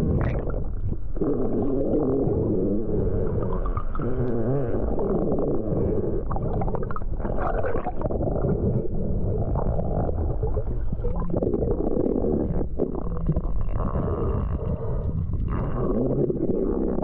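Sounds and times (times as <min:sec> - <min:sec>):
muffled underwater rumbling: 0:00.0 - 0:17.0.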